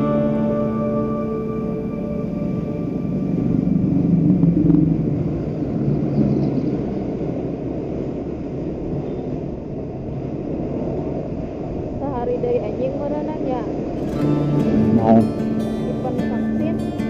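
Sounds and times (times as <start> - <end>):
wind and road noise: 0.0 - 16.8.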